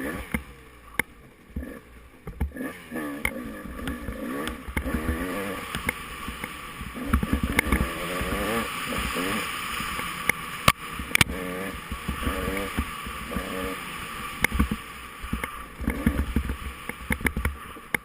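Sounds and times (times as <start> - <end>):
racing engine revving: 0.0 - 18.0.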